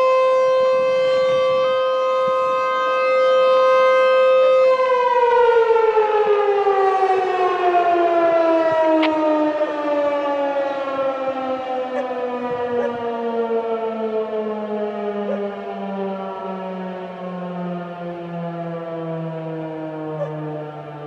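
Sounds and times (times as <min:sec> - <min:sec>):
warning siren winding down: 0:00.0 - 0:21.0.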